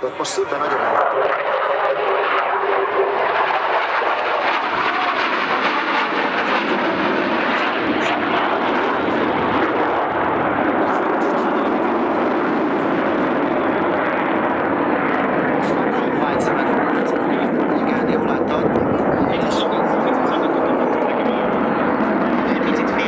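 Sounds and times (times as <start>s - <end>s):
jet engine noise: 0.0s - 23.0s.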